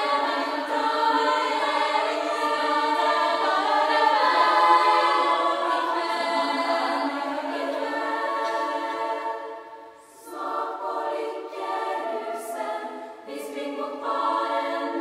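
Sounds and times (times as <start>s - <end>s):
choir singing in parts: 0.0s - 15.0s.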